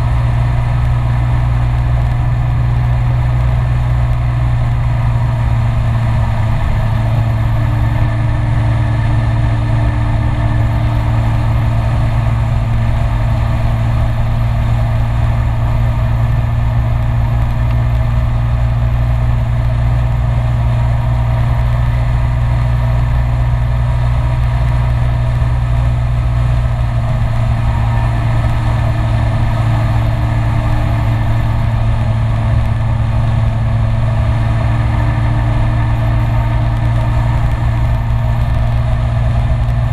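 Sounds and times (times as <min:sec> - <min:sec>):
scooter engine humming: 0:00.0 - 0:39.9
wind and road noise: 0:00.0 - 0:39.9.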